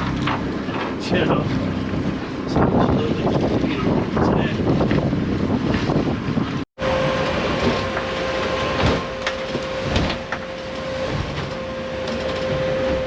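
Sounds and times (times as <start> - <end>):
boat engine running: 0.0 - 13.0
constant whine: 0.0 - 13.0.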